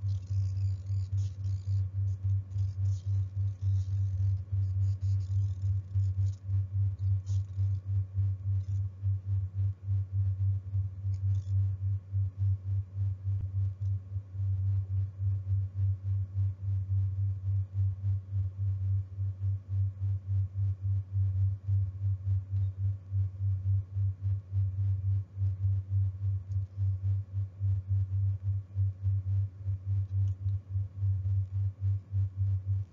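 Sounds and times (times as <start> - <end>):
low throbbing hum: 0.0 - 32.9.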